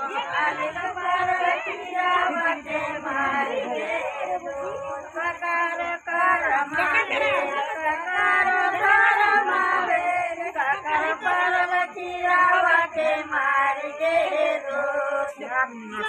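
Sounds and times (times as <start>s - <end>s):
many voices singing together: 0.0s - 16.0s.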